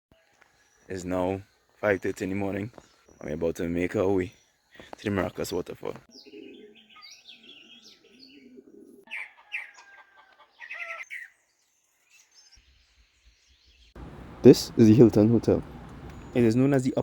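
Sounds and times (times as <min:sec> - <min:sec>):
birds chirping and singing: 0:00.4 - 0:17.0.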